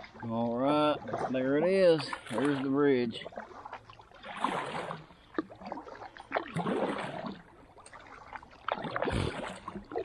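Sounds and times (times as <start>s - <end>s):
paddle strokes in water: 0.0s - 10.0s.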